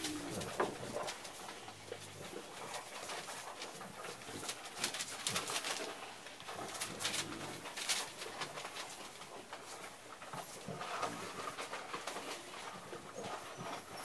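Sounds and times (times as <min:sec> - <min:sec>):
puppies grunting: 0:00.0 - 0:07.9, 0:10.4 - 0:14.0
scratches and rustles: 0:00.0 - 0:14.0.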